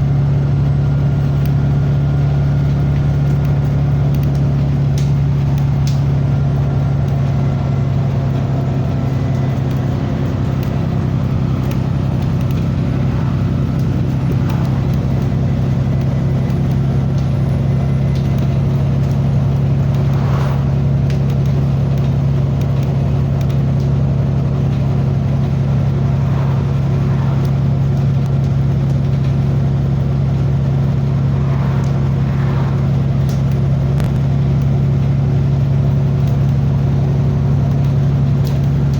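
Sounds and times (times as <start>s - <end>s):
vehicle engine droning: 0.0s - 38.9s.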